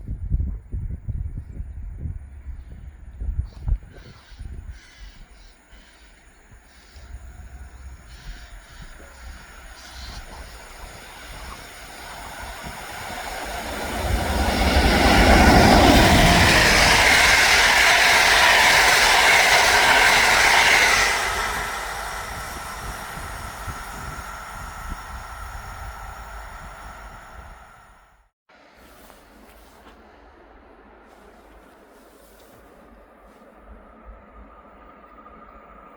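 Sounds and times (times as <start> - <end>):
train passing at speed: 4.9 - 35.9.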